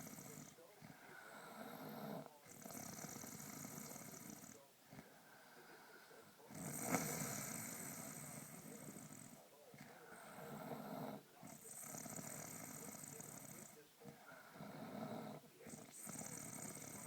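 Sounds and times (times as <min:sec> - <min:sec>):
snoring: 0:00.0 - 0:17.0.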